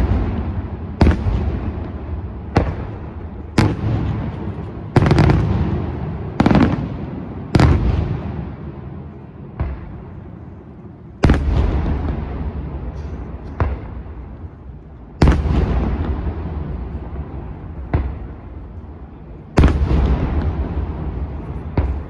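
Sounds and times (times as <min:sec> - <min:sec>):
fireworks booms: 0:00.0 - 0:22.0
fireworks sharp cracks: 0:00.0 - 0:22.0.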